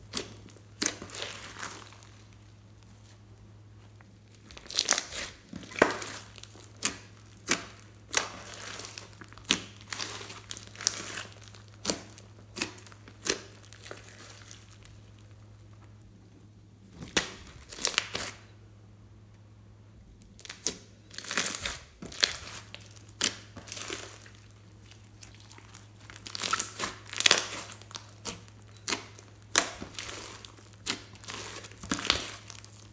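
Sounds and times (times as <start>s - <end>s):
slime crunching and squishing: 0.0s - 18.5s, 20.2s - 32.9s
faint low hum: 0.0s - 32.9s.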